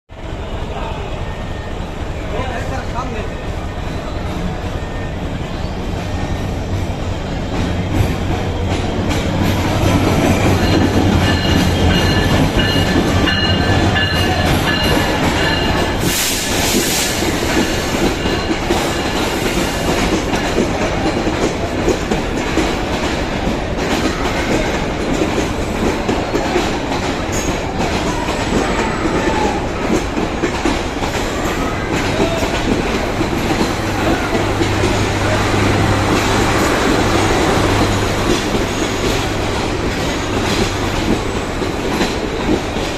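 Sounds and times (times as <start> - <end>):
train rumble: 0.1 - 42.9
train wheels clattering: 3.8 - 42.9.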